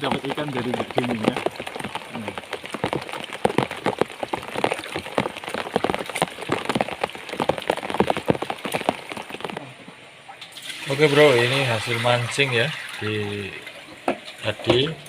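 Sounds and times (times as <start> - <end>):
raindrops hitting close: 0.0 - 15.0.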